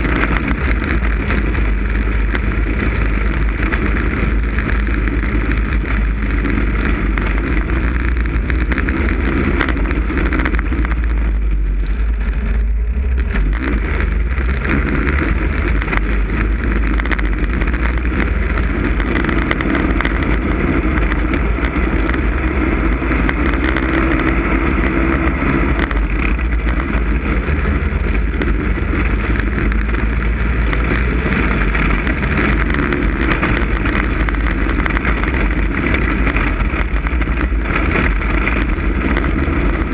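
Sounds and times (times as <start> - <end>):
snowmobile engine running: 0.0 - 39.9
wind rumble on microphone: 0.0 - 39.9.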